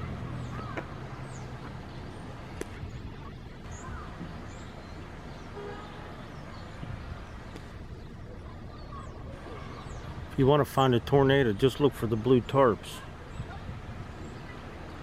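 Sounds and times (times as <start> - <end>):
birds chirping: 0.0 - 15.0
vehicle engine humming: 0.0 - 15.0.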